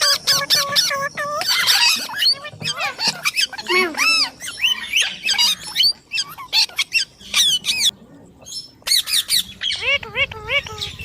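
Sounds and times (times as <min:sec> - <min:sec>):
parakeet squawking and chirping: 0:00.0 - 0:07.9, 0:08.8 - 0:11.0.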